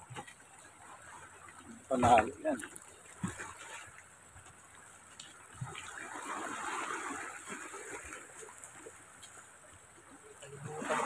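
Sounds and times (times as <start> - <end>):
water surging on rocky shore: 0.0 - 11.0.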